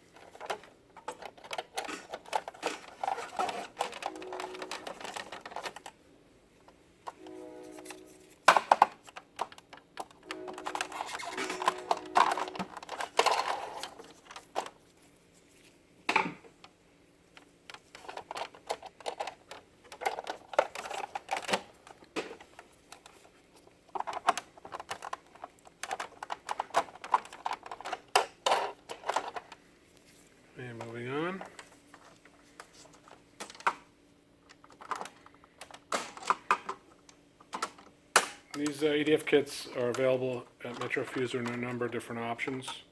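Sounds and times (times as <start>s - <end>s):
plastic parts clicking and rattling: 0.1s - 6.0s, 8.4s - 14.8s, 17.3s - 29.6s, 30.7s - 42.9s.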